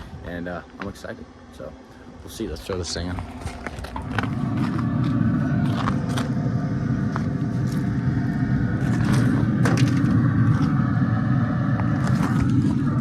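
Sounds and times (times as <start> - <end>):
faint hum: 0.0 - 13.0
smoker rumbling: 0.0 - 13.0.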